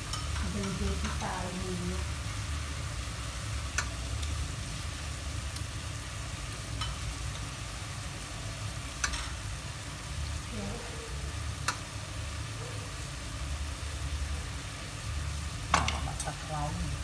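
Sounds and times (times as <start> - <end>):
shrimp sizzling in a pot: 0.0 - 17.0.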